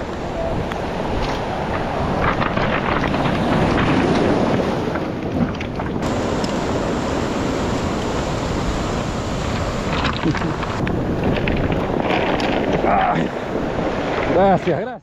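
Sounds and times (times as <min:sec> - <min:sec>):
surf washing over cobble beach: 0:00.0 - 0:15.0
wind buffeting microphone: 0:00.0 - 0:15.0.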